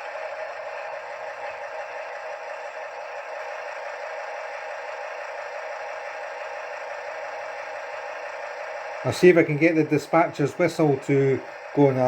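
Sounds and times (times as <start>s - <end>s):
thin model engine idling: 0.0s - 12.0s.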